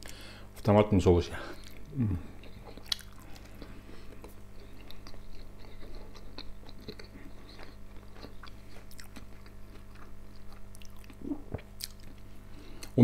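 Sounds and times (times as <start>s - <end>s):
man chewing food: 1.5s - 13.0s.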